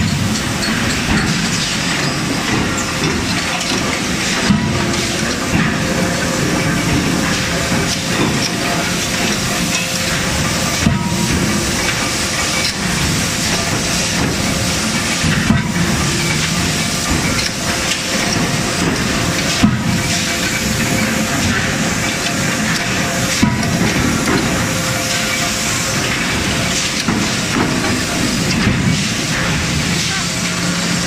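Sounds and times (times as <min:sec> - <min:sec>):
loud steady hydraulic hiss: 0:00.0 - 0:31.0.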